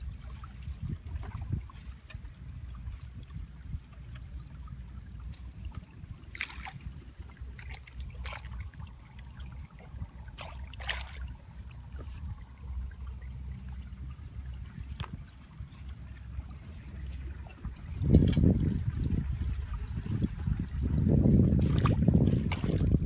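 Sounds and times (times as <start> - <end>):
water splashes: 0.0 - 23.0
water trickling and sloshing: 0.0 - 23.0.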